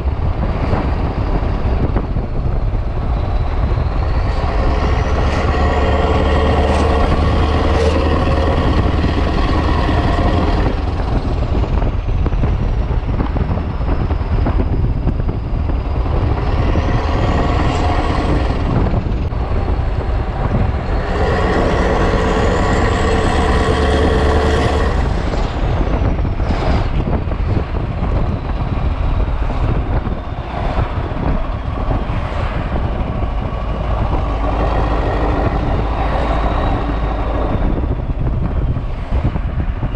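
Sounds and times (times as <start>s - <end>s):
diesel truck engine revving: 0.1s - 39.9s.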